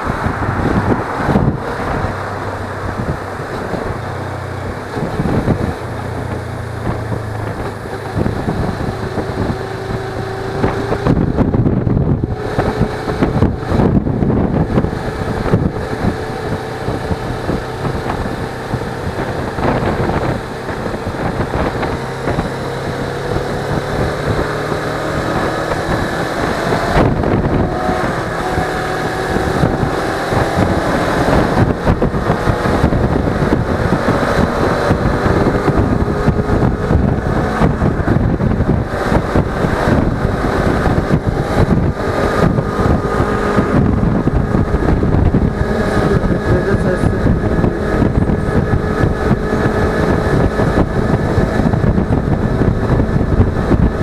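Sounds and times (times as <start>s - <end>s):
motorcycle engine under way: 0.0s - 54.0s
wind rush on microphone: 0.0s - 54.0s.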